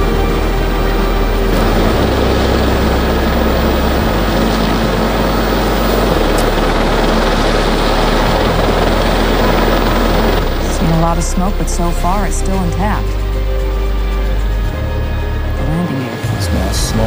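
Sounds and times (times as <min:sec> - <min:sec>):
helicopter rotors rushing: 0:00.0 - 0:17.0
low droning tones: 0:00.0 - 0:17.0.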